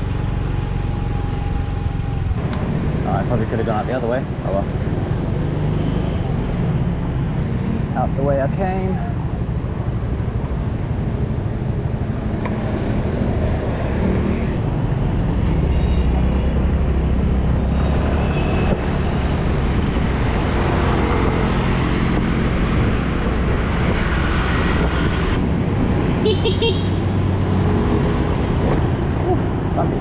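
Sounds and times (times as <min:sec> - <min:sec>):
surrounding traffic: 0:00.0 - 0:30.0.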